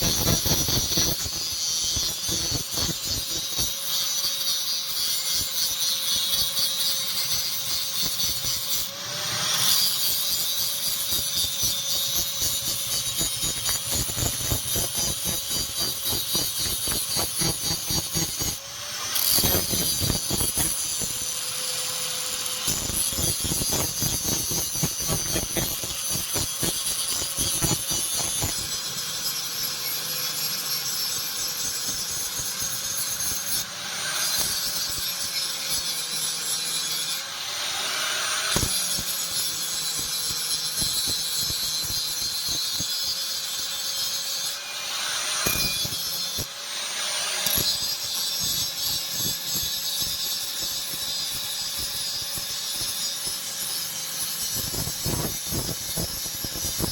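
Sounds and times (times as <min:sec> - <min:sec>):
electric grinder on steel: 0:00.0 - 0:56.9.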